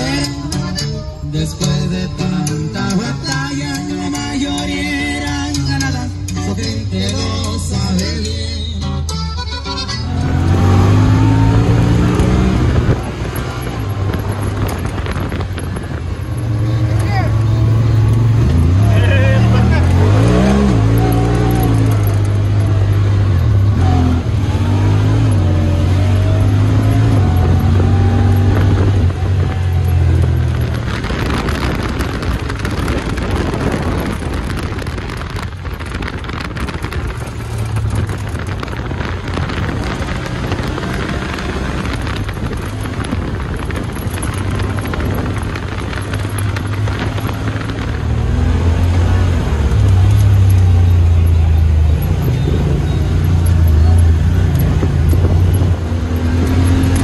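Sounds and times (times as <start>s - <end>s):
utility vehicle engine under load: 0.0s - 57.0s.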